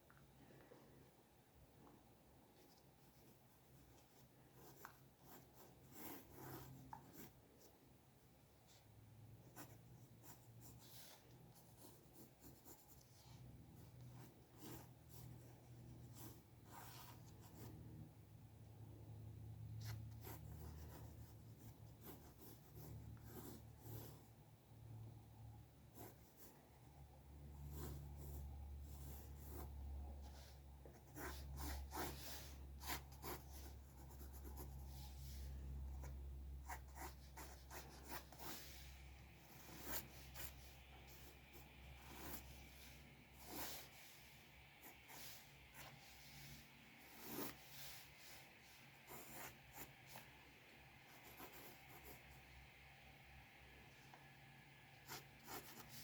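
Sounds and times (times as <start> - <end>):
faint low hum: 0.0 - 56.0
pencil scratching on paper: 2.5 - 7.8, 8.6 - 18.1, 19.2 - 24.5, 25.8 - 52.5, 54.9 - 56.0.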